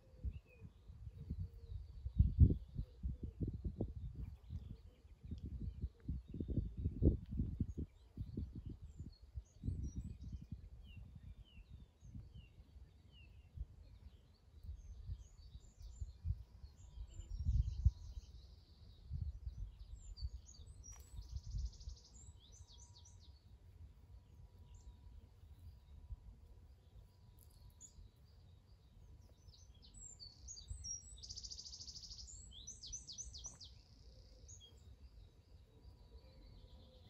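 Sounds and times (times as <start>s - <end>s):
garden birds singing: 0.0s - 37.0s.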